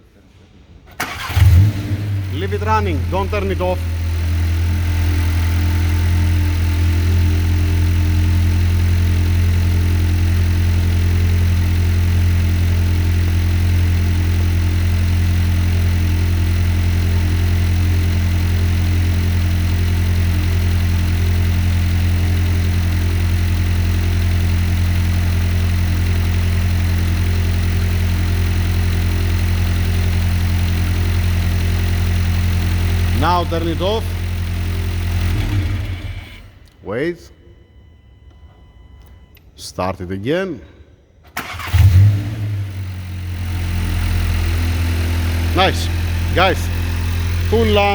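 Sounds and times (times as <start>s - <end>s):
car engine idling: 0.9s - 36.8s, 41.3s - 47.9s.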